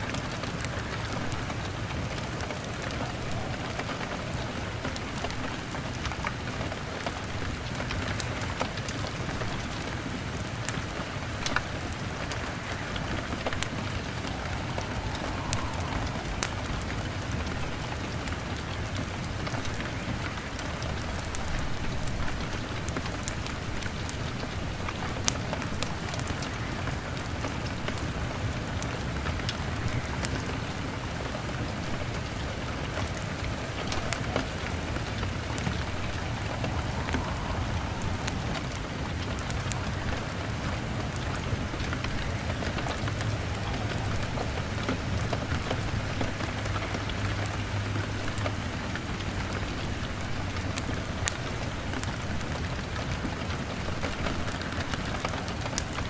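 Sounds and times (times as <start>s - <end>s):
fire crackling: 0.0s - 56.0s
rain on window glass: 0.0s - 56.0s.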